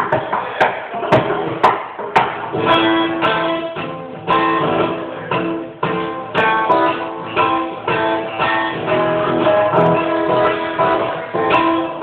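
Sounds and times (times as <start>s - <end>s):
guitar chords strummed: 1.1s - 12.0s.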